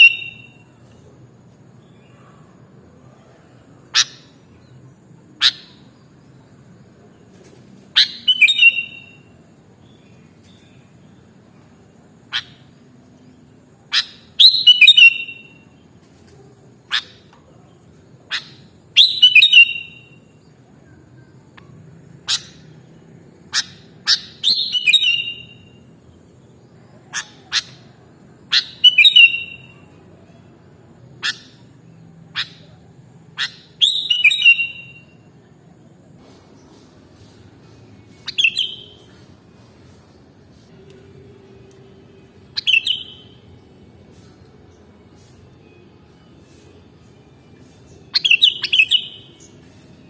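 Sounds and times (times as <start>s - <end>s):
bulbul singing: 0.0s - 0.8s, 3.4s - 6.6s, 7.9s - 11.4s, 12.2s - 16.0s, 16.9s - 30.3s, 31.1s - 35.3s, 36.6s - 39.3s, 40.5s - 50.0s.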